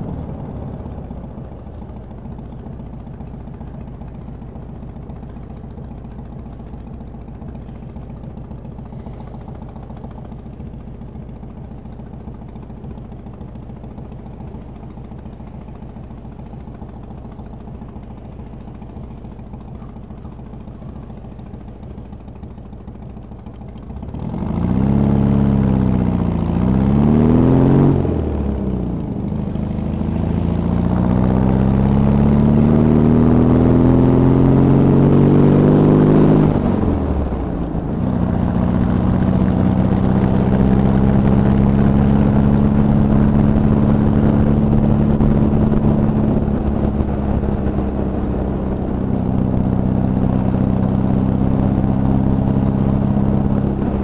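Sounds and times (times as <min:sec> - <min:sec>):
trike engine idling and revving: 0:00.0 - 0:54.0.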